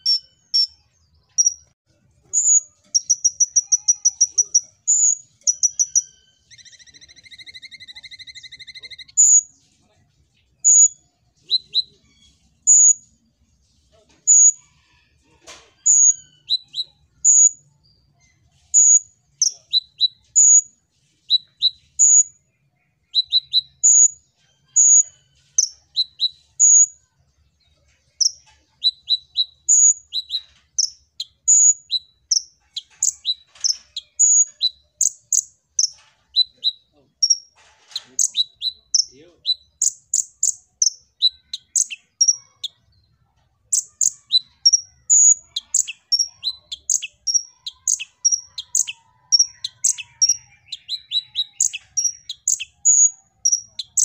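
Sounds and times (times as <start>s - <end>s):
sunbird high chirps: 0.0s - 1.7s, 2.3s - 9.6s, 10.5s - 13.1s, 15.8s - 27.0s, 28.1s - 42.9s, 43.7s - 54.0s.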